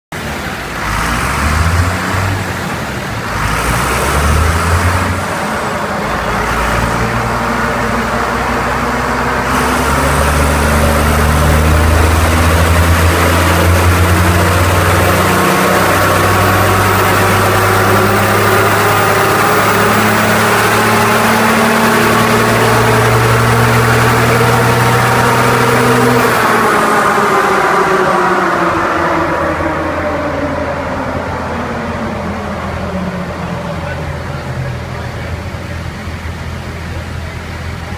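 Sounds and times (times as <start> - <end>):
diesel engine running loud: 0.1 - 37.9
turbo whine climbing in pitch: 4.4 - 35.5.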